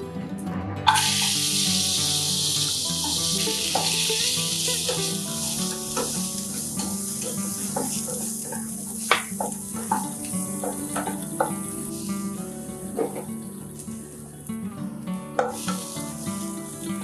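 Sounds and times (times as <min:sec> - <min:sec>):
food sizzling in hot oil: 0:00.9 - 0:14.1, 0:15.4 - 0:17.0.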